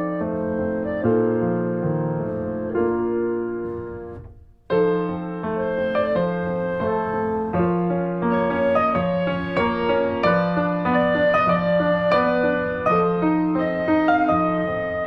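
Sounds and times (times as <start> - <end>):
piano sustained notes: 0.0 - 15.0.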